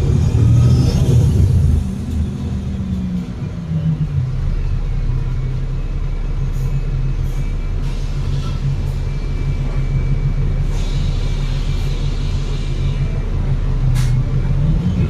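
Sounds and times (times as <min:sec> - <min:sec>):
bus diesel engine: 0:00.0 - 0:15.0.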